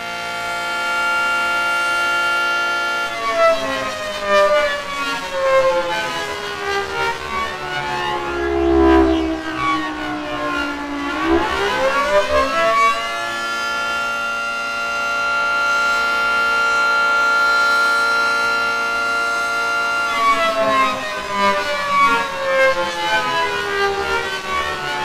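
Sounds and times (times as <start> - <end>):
civil defense siren wailing: 0.1 - 25.0.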